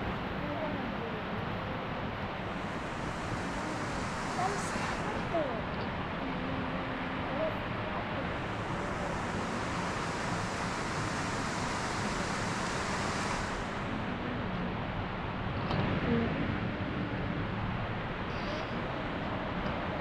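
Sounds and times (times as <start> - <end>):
steady outdoor rushing noise: 0.0 - 20.0.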